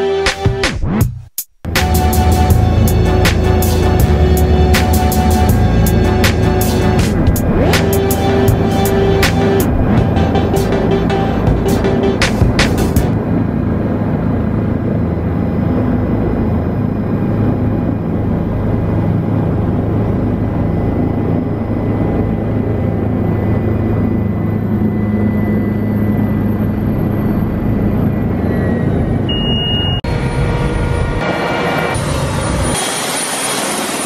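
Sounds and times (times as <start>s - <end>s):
helicopter engine and rotors drone: 1.7s - 34.0s.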